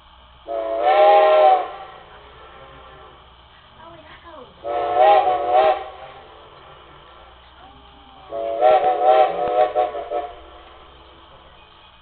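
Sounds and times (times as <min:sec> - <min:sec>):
steam locomotive chime whistle: 0:00.0 - 0:03.2, 0:04.6 - 0:12.0.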